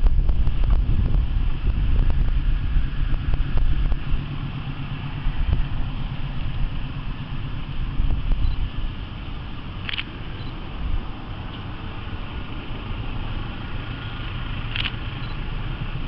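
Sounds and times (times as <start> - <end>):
low engine-like rumble: 0.0 - 16.0
wind buffeting microphone: 0.0 - 16.0.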